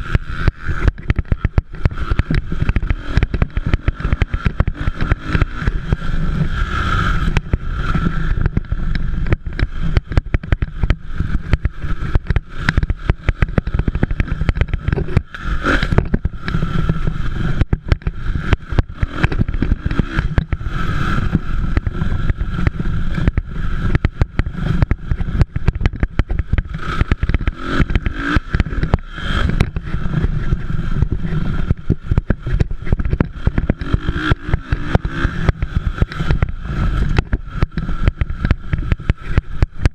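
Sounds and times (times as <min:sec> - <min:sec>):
dirt bike engines revving: 0:00.0 - 0:39.9
low rumble and crackle: 0:00.0 - 0:39.9.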